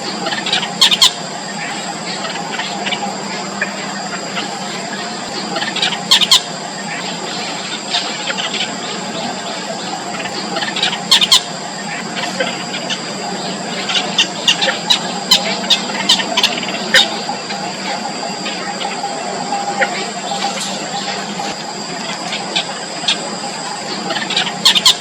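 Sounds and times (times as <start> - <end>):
high-pitched whine: 0.0 - 25.0
steady hiss: 0.0 - 25.0
bird chicks squeaky calls: 0.1 - 25.0.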